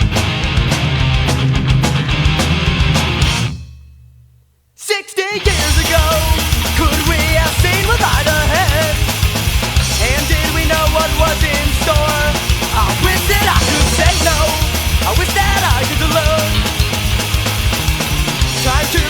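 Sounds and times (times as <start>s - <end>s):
punk rock band playing: 0.0s - 3.7s, 5.4s - 19.0s.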